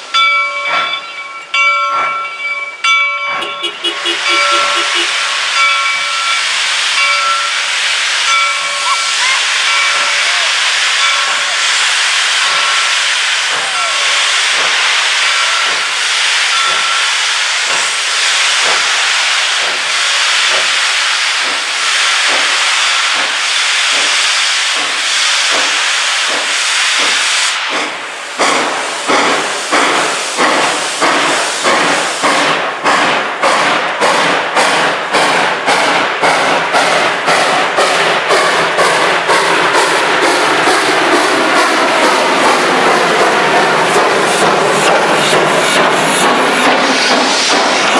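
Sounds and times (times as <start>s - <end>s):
steam locomotive hissing: 0.0s - 47.9s
locomotive exhaust chuffs: 0.7s - 47.9s.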